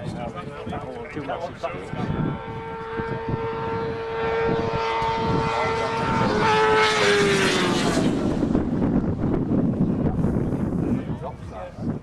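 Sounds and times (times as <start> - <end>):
rush of noise: 0.0 - 12.0
vehicle engine passing at speed: 0.6 - 10.8.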